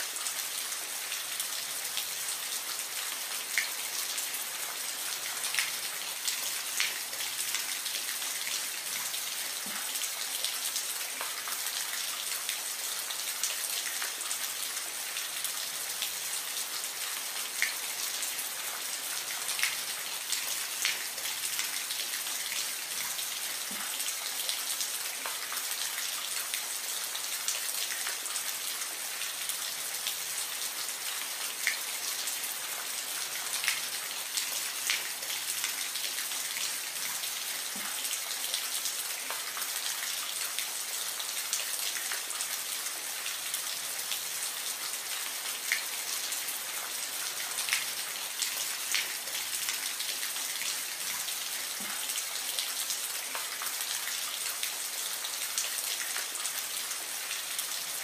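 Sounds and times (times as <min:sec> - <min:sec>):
soft rain falling: 0:00.0 - 0:58.0.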